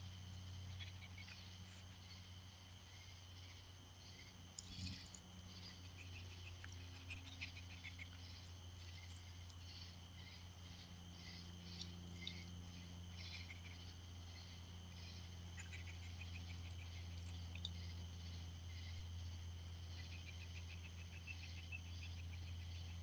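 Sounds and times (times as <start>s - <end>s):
insects chirping: 0.0s - 23.0s
low steady hum: 0.0s - 23.0s.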